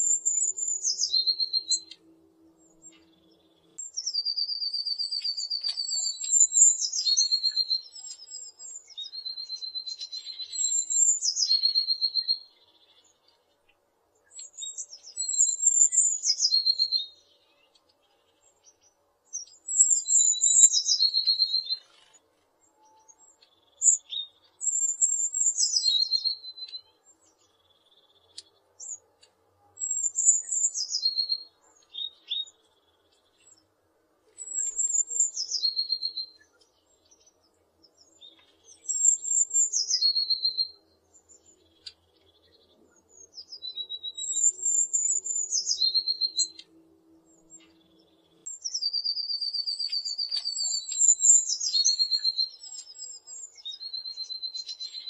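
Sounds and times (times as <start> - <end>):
bird singing high notes and trill: 0.0 - 13.5, 14.3 - 17.8, 19.4 - 29.1, 29.7 - 33.6, 34.4 - 37.4, 38.0 - 55.0.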